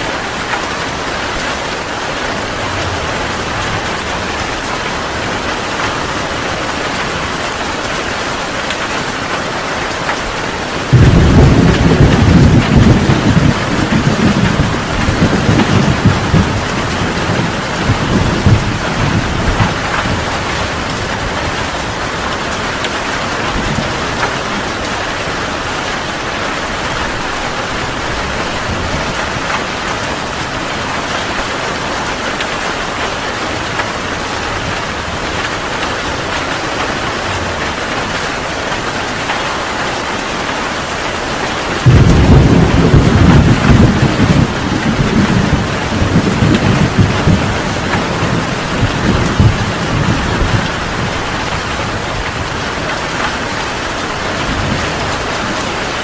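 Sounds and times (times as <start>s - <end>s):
heavy rain pouring: 0.0s - 56.0s
thunder rumbling: 0.1s - 7.9s, 10.0s - 39.3s, 41.6s - 56.0s.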